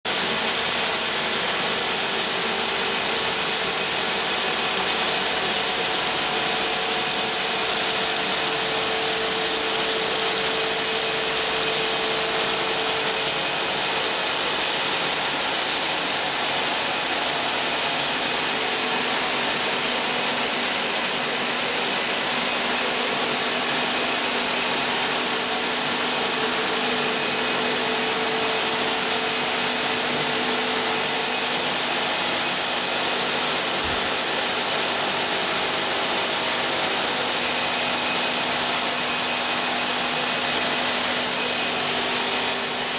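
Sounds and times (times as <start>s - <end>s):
machine whirring: 0.1s - 42.9s.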